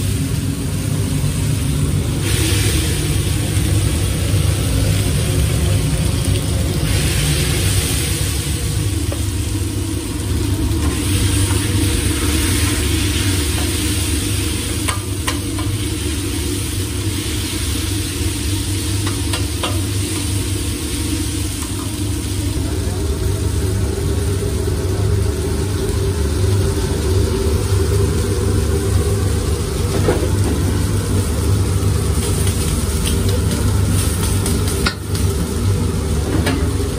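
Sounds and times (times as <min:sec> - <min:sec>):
sausage and onions sizzling: 0:00.0 - 0:36.9
steady low hum: 0:00.0 - 0:36.9.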